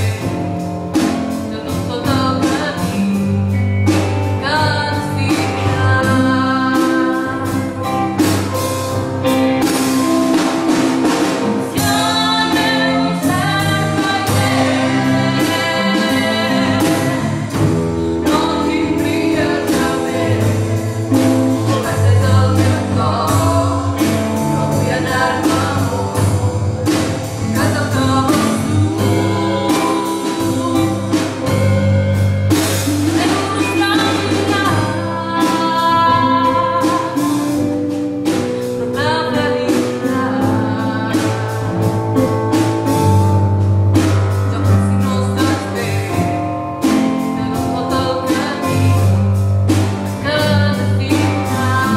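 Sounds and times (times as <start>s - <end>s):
woman singing: 0.0s - 42.3s, 44.0s - 51.9s
band playing: 0.0s - 51.9s.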